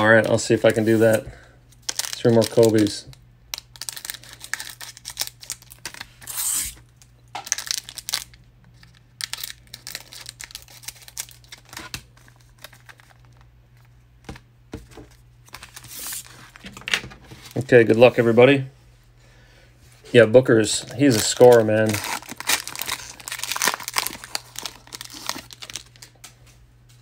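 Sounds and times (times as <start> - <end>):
foil wrappers crinkling: 0.0 - 13.9, 14.8 - 18.3, 20.4 - 26.6.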